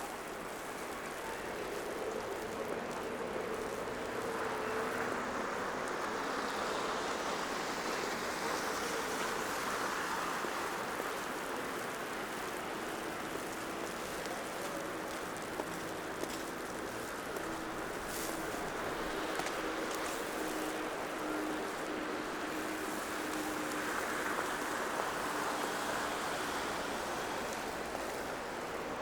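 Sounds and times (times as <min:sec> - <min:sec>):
traffic tyres hissing on wet roads: 0:00.0 - 0:29.0.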